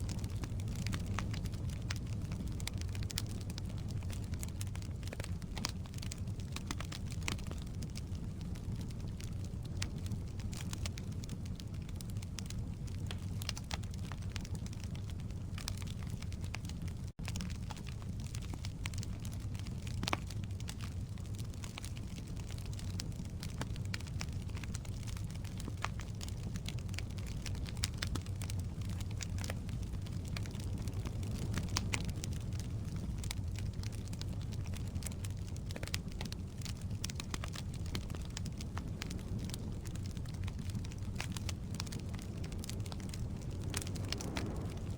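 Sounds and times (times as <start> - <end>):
firewood crackling and popping: 0.0 - 44.9.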